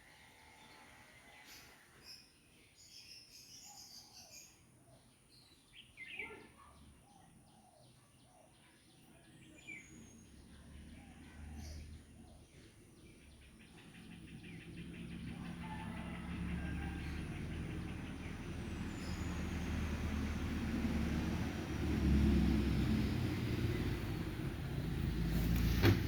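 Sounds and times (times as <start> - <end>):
birds chirping: 1.4 - 26.0.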